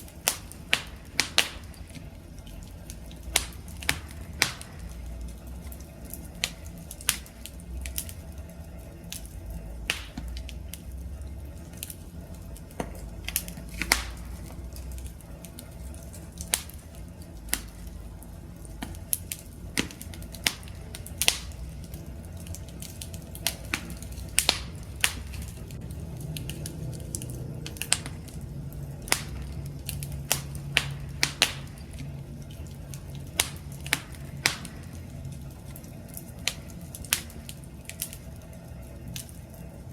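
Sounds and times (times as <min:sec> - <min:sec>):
burning wood popping and snapping: 0:00.0 - 0:39.9
low rumble of flames: 0:00.0 - 0:39.9.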